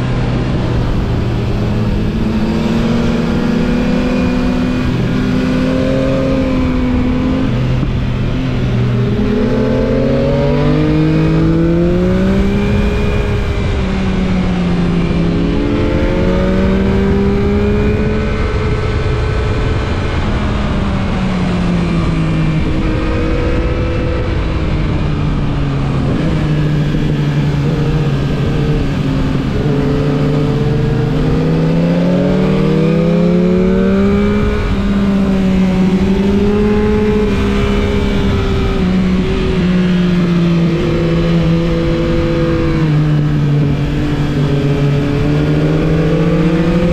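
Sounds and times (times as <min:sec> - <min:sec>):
motorcycle engine accelerating: 0:00.0 - 0:46.9
wind and road noise: 0:00.0 - 0:46.9.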